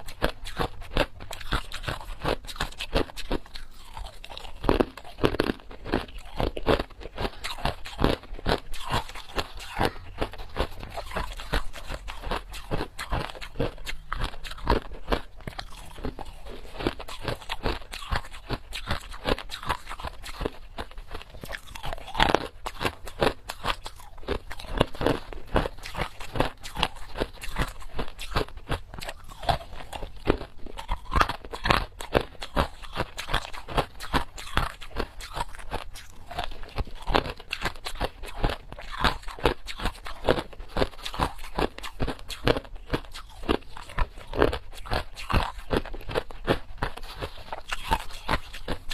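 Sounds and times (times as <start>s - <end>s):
ice chewing crunches: 0.0s - 48.9s.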